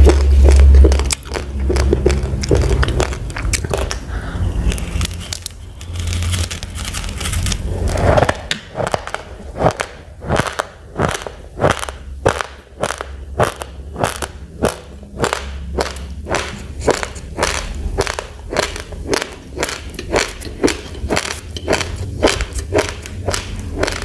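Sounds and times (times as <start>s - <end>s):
chewing dry rice crunches: 0.0s - 4.0s, 8.2s - 24.0s
low steady hum: 0.0s - 24.0s.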